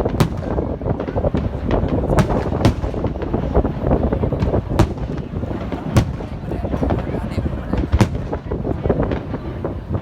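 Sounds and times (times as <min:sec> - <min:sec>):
fireworks bangs: 0:00.0 - 0:10.0
wind on microphone: 0:00.0 - 0:10.0.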